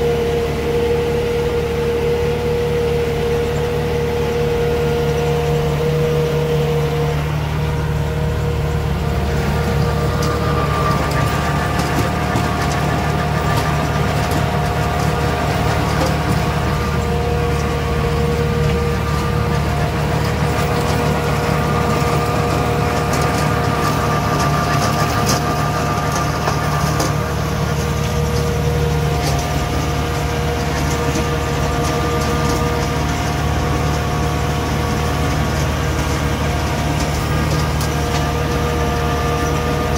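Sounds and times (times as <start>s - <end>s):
steady whine: 0.0s - 39.9s
tractor engine humming: 0.0s - 39.9s.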